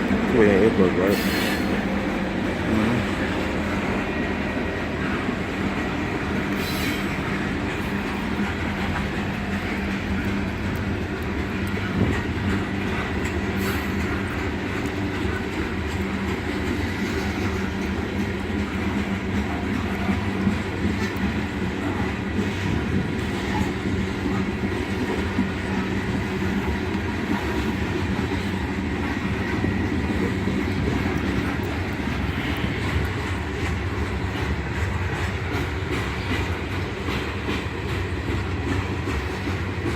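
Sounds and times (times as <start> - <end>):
train wheels rumbling on rails: 0.0 - 39.9
wheels clacking over rail joints: 0.0 - 39.9.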